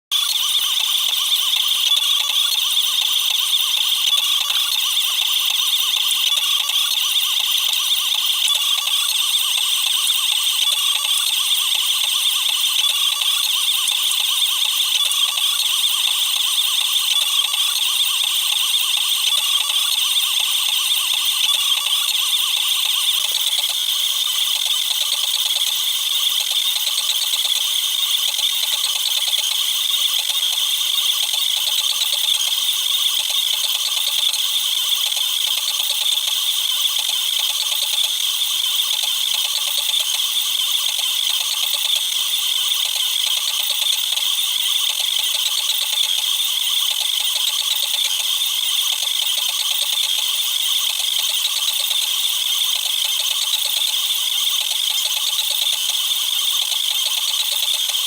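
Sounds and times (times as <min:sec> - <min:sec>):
printer motors rattling clicks: 0:00.1 - 0:58.0.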